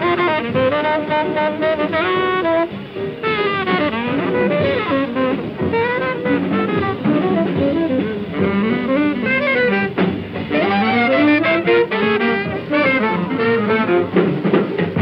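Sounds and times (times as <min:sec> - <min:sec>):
horn soloing in quick runs: 0:00.0 - 0:15.0
jazz piano bass and drums: 0:00.0 - 0:15.0.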